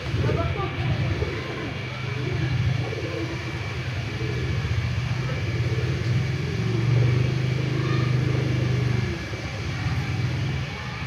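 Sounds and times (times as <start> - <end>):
engine pulsing rumble: 0.0 - 11.0.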